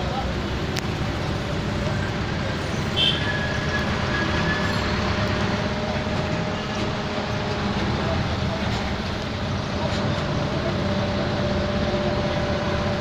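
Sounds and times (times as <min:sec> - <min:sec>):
rumble of road traffic: 0:00.0 - 0:13.0.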